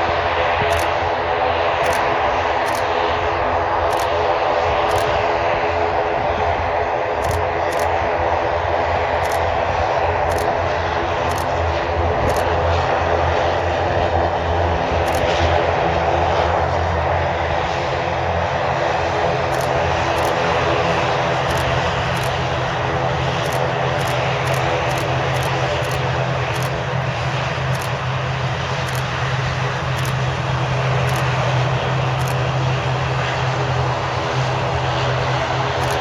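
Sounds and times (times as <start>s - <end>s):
turboprop engines droning: 0.0s - 36.0s.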